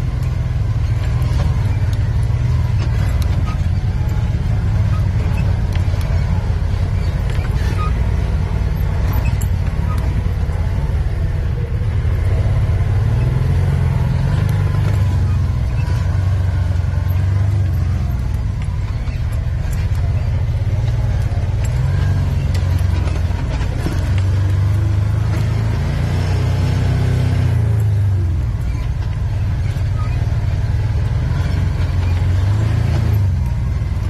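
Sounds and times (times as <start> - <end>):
utility vehicle engine running: 0.0 - 34.0.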